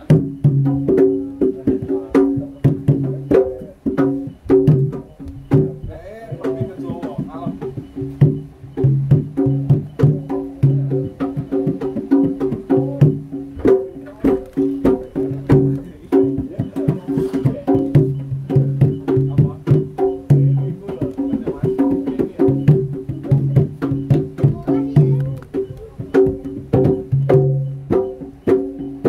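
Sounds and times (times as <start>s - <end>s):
drum and percussion strokes: 0.0s - 29.0s
gamelan music: 0.0s - 29.0s.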